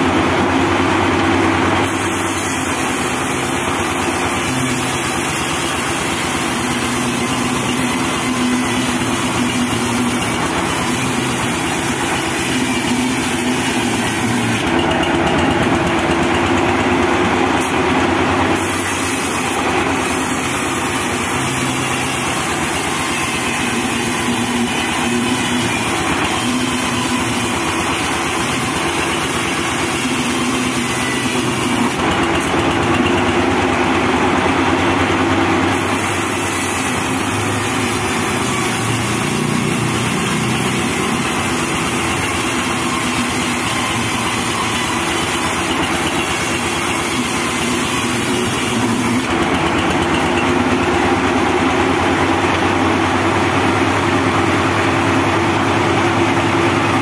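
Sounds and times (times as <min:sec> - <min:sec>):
band saw cutting log: 0:00.0 - 0:57.0
engine-driven pulleys and belts: 0:00.0 - 0:57.0.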